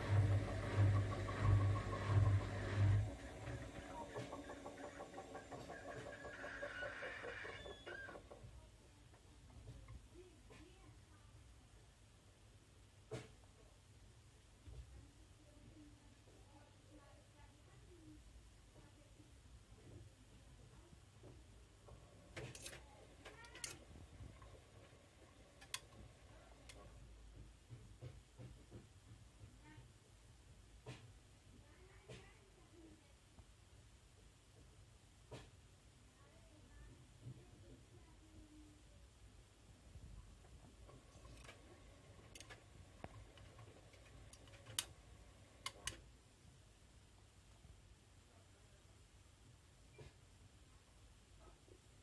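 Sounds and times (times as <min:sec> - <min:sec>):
washing machine faint hum: 0:00.0 - 0:52.0.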